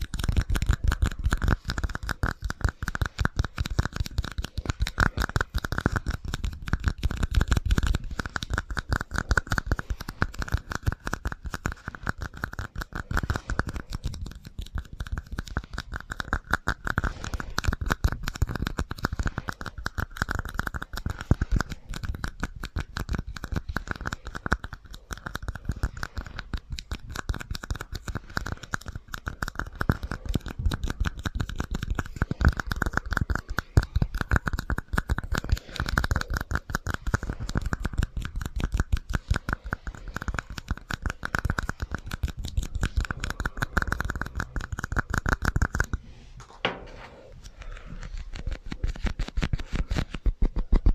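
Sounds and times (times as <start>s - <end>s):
tapping and scratching with echo: 0.0s - 50.9s.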